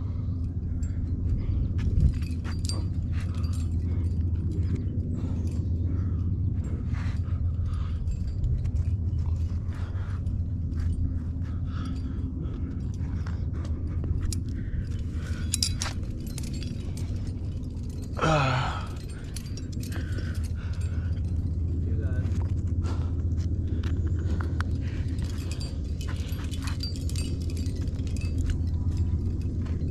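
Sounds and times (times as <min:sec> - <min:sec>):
climbing hardware clinking: 0:00.0 - 0:29.9
steady low rumble: 0:00.0 - 0:29.9.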